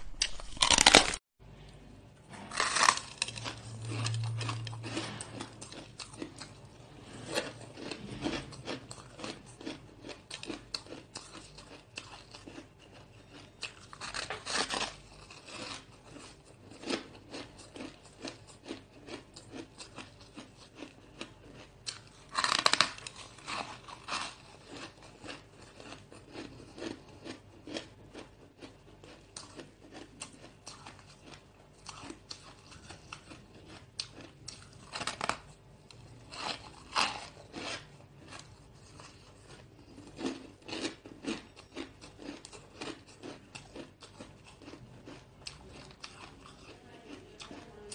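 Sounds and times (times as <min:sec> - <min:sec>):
ice being chewed: 0:02.5 - 0:47.9.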